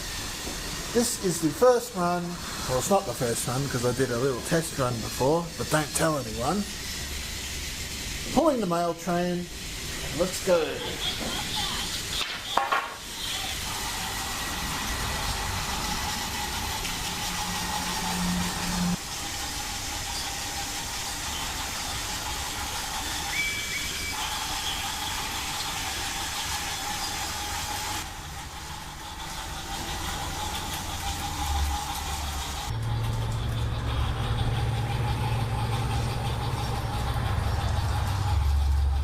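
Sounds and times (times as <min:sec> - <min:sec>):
steam chuffing sound effect: 0:00.0 - 0:12.2, 0:13.0 - 0:39.0
toy train motor and wheels: 0:00.0 - 0:39.0.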